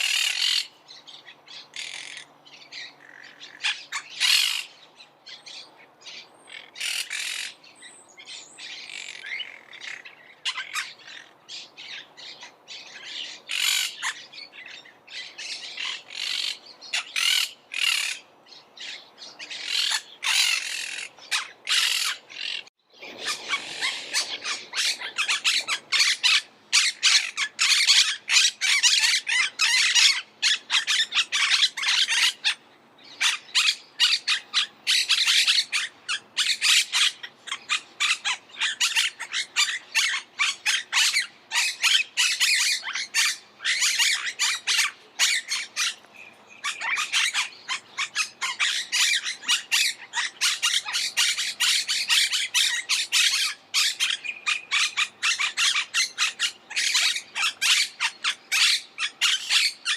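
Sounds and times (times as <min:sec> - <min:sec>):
parakeets squawking: 0:00.0 - 0:00.8, 0:01.5 - 0:04.7, 0:05.5 - 0:07.6, 0:08.6 - 0:18.2, 0:18.8 - 0:59.9.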